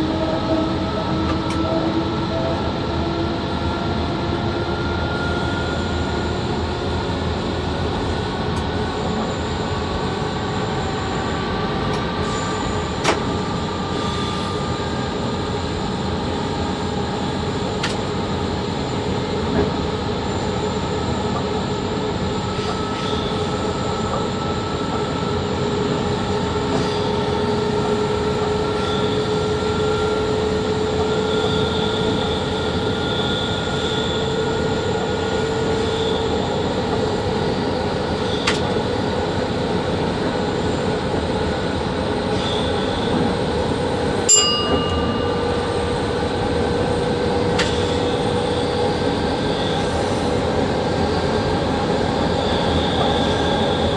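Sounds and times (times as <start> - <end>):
electric locomotive rumble and whine: 0.0 - 53.9.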